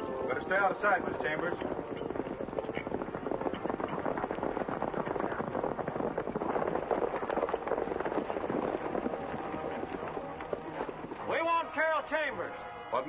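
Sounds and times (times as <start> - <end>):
horses galloping hoofbeats: 0.0 - 13.0.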